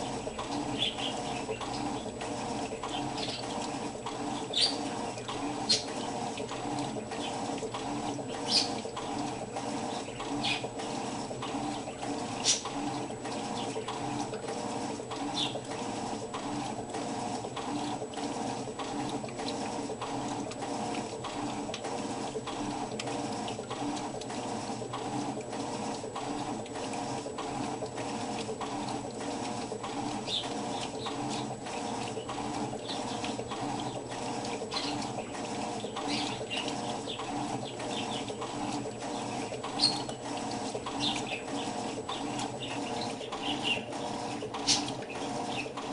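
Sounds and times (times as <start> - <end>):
washing machine humming and ticking: 0.0 - 45.9.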